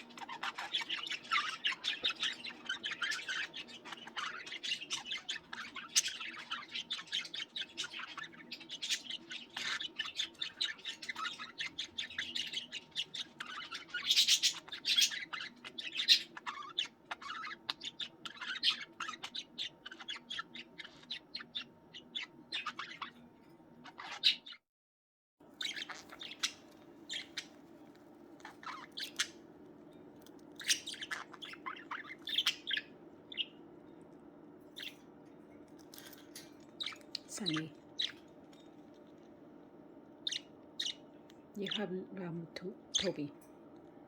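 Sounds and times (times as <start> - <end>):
budgies chattering: 0.0 - 24.6, 25.6 - 34.0, 34.6 - 39.3, 40.1 - 43.4
faint low hum: 0.0 - 24.6, 25.4 - 44.0.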